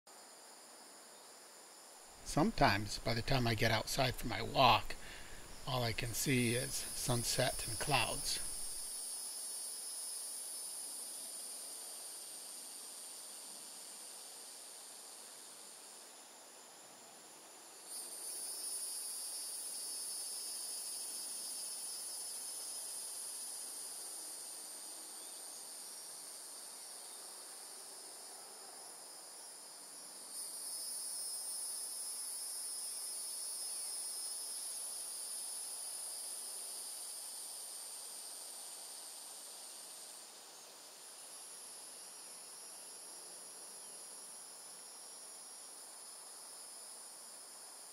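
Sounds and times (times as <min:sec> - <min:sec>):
insect chorus humming: 0:00.1 - 0:47.9.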